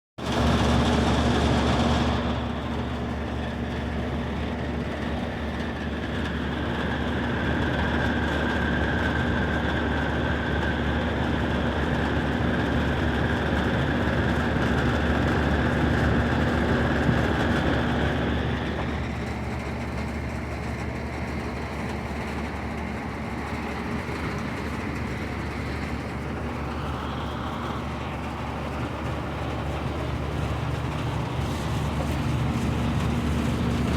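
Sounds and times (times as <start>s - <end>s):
heat pump humming: 0.2s - 33.9s
heat pump whine: 0.2s - 33.9s.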